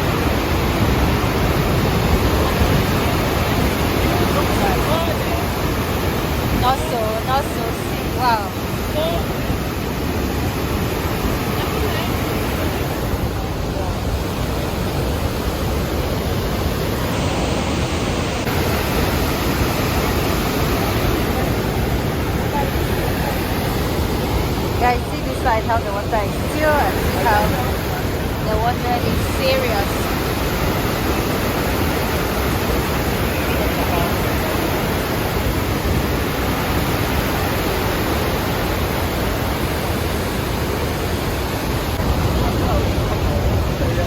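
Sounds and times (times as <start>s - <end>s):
waterfall roaring: 0.0s - 44.0s.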